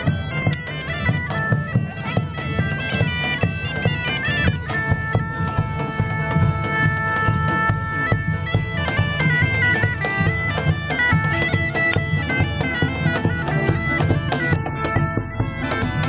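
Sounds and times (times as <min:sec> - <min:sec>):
bagpipes playing a lively tune: 0:00.0 - 0:16.0.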